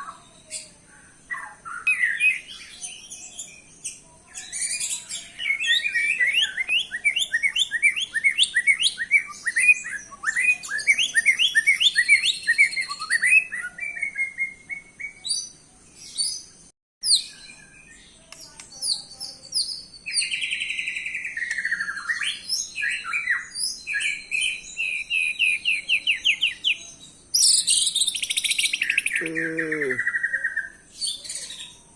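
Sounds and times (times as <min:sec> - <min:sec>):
bird singing whistled notes: 0:01.3 - 0:29.2.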